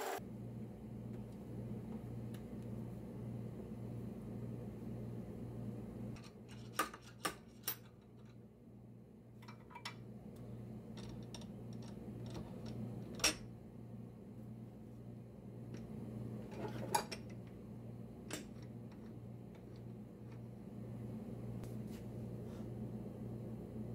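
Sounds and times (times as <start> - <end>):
steady low hum: 0.1 - 6.2, 7.9 - 23.9.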